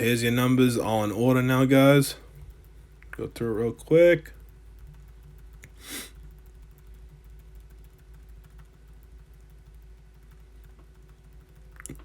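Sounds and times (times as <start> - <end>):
low steady background hum: 0.0 - 12.0
faint scattered clicks: 2.1 - 12.0.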